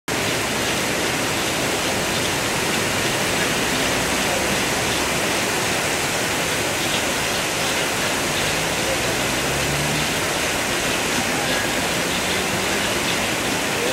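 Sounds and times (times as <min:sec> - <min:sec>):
heavy rain on pavement: 0:00.1 - 0:13.9.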